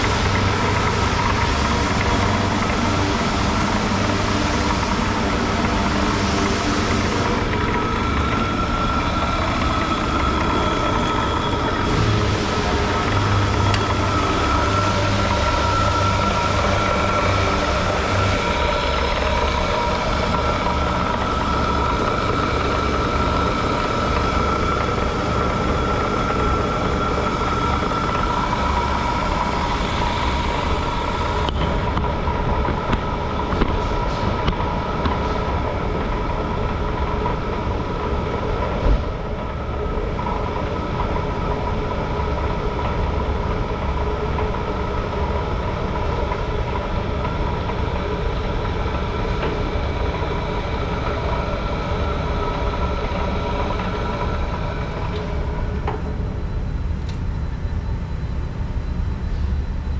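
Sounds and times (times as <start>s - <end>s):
band saw humming and whining: 0.0s - 59.9s.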